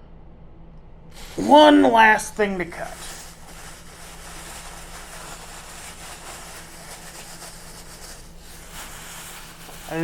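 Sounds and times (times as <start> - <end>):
steady low hum: 0.0 - 10.0
background hiss: 1.1 - 10.0.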